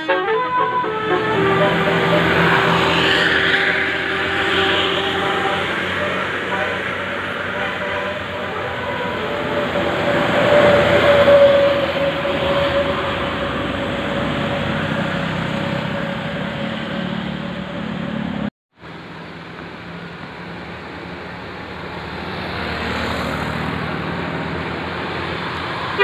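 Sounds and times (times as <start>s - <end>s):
bus driving past: 0.0s - 26.0s
quiet vehicle noise: 0.8s - 26.0s.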